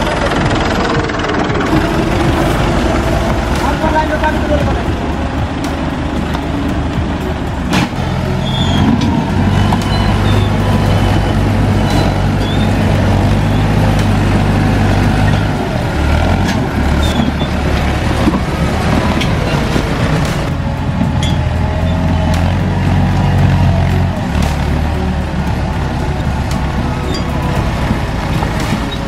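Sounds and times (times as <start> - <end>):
tractor diesel engine working hard: 0.0 - 29.0.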